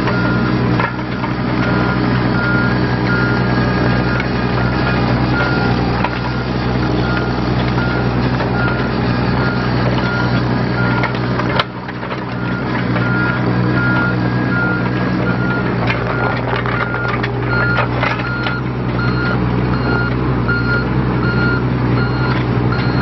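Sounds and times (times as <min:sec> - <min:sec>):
excavator diesel engine running: 0:00.0 - 0:23.0
travel alarm beeping: 0:00.1 - 0:23.0.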